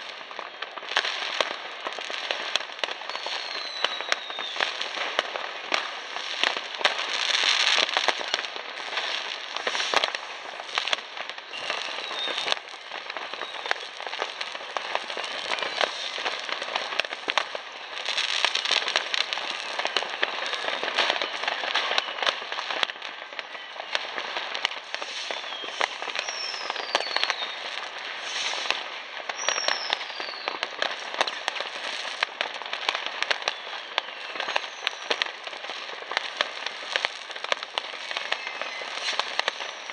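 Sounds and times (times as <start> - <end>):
falling firework whistles: 0.0 - 39.9
fireworks crackling and bursting: 0.0 - 39.9.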